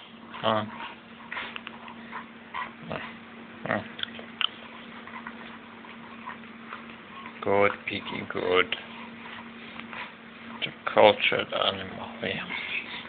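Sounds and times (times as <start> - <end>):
dog chewing and smacking: 0.2 - 11.8.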